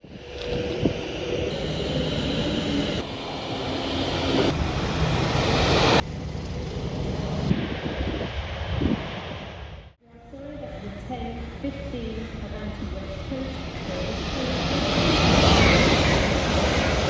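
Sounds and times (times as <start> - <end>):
trains rushing past: 0.0 - 17.0.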